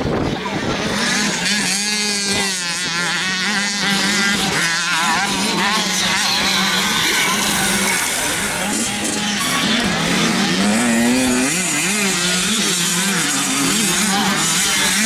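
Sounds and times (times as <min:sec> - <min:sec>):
motorcycle engines revving: 0:00.0 - 0:15.0
steady low drone: 0:00.0 - 0:15.0.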